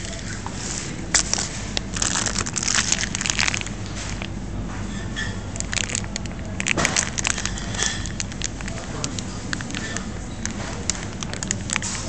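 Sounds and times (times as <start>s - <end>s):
crinkling crackling rustle: 0.0s - 4.4s, 5.5s - 12.0s.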